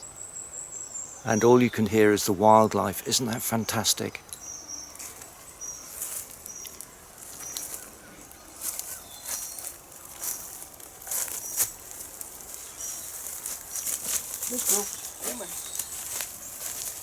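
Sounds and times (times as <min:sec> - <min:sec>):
small birds chirping: 0:00.0 - 0:17.0
steady background hiss: 0:00.0 - 0:17.0.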